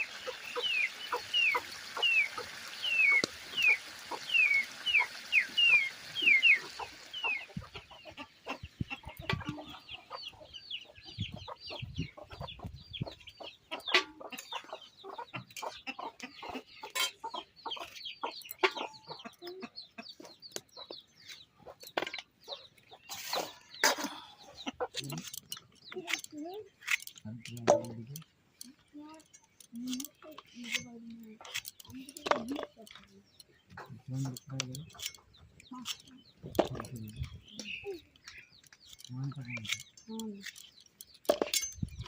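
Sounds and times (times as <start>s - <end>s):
chickens clucking: 0.0s - 42.0s
chicks peeping: 0.0s - 42.0s.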